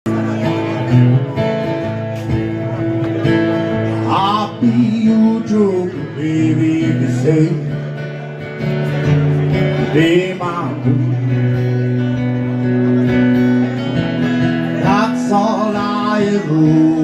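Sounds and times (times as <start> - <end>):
electric guitar: 0.1 - 17.0
rockabilly band music: 0.1 - 17.0.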